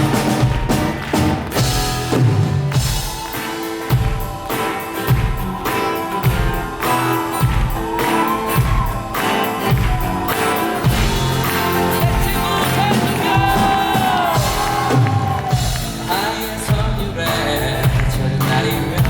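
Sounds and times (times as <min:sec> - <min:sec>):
drum beat: 0:00.0 - 0:19.0
upbeat band instrumental: 0:00.0 - 0:19.0.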